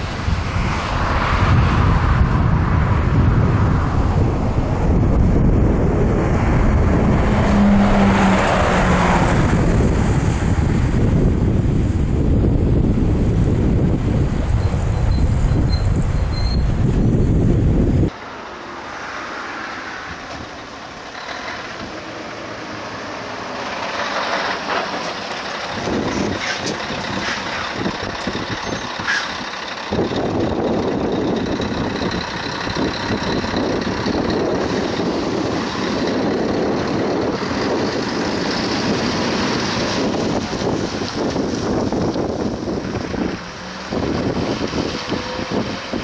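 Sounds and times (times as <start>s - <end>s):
heavy truck driving past: 0.0s - 46.0s
other traffic: 0.0s - 46.0s.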